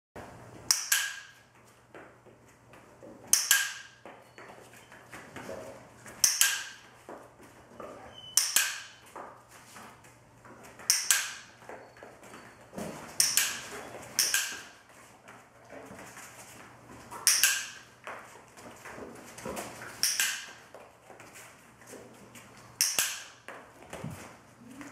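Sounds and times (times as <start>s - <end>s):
dog paws tapping on mats: 1.4s - 24.9s.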